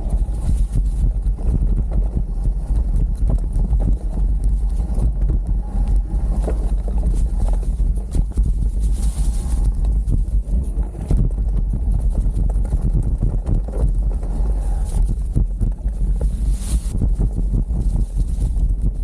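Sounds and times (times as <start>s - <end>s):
bike rattling over bumps: 0.0s - 19.0s
bike tyres rolling through leaves: 0.0s - 19.0s
wind rumble on microphone: 0.0s - 19.0s.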